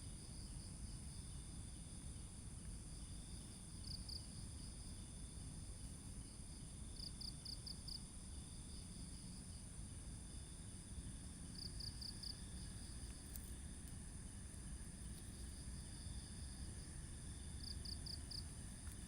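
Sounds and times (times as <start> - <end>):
high insect drone: 0.0 - 19.0
low background rumble: 0.0 - 19.0
crickets trilling: 0.1 - 19.0.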